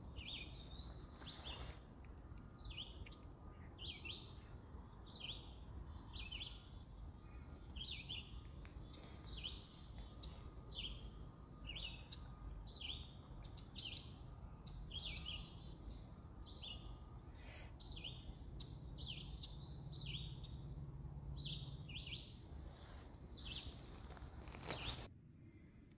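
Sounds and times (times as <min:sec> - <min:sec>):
bird chirping: 0:00.0 - 0:25.1
low steady background noise: 0:00.0 - 0:25.9.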